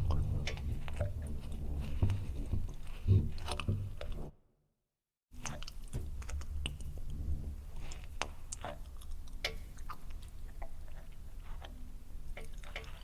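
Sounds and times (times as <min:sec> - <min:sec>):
wet slimy clicks and drips: 0:00.0 - 0:04.3, 0:05.4 - 0:13.0.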